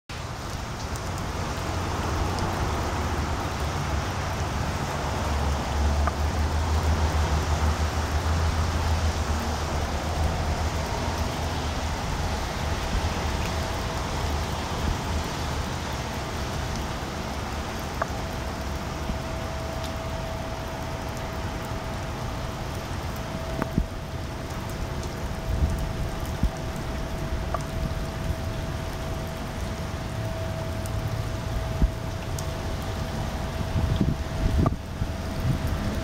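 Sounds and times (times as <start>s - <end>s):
rain falling on a lake: 0.1s - 36.0s.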